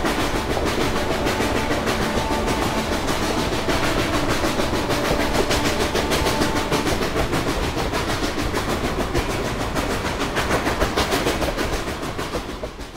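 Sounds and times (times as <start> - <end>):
train clickety-clack on rails: 0.0 - 12.9.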